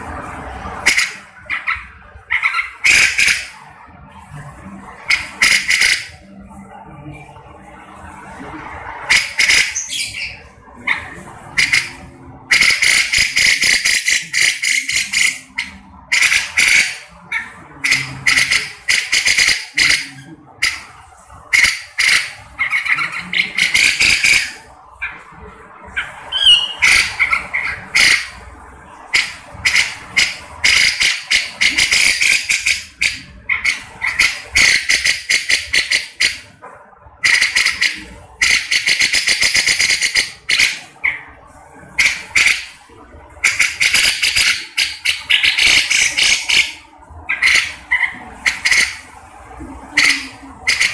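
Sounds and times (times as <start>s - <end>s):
bulbul calling in harsh bursts: 0.8s - 3.7s, 5.0s - 6.3s, 9.0s - 25.2s, 25.8s - 28.4s, 29.1s - 36.6s, 37.2s - 42.8s, 43.4s - 49.2s, 49.8s - 50.9s.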